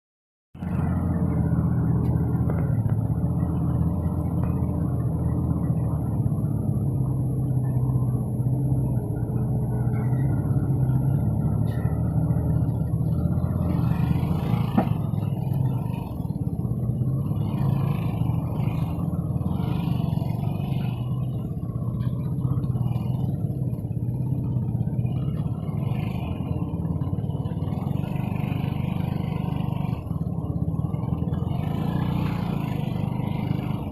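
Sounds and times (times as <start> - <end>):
dump truck engine running: 0.6 - 33.9.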